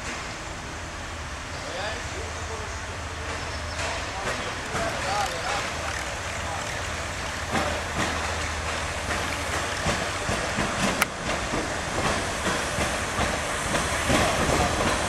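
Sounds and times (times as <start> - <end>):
railcar engine hum: 0.0 - 15.0.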